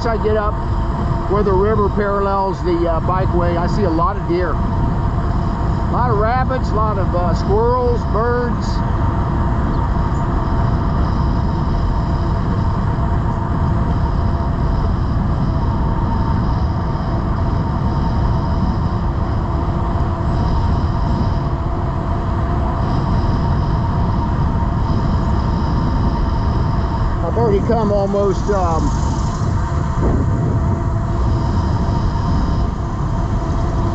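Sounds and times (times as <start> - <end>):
electric motor whine: 0.0 - 33.9
tyres humming on pavement: 0.0 - 33.9
wind rushing over microphone: 0.0 - 33.9.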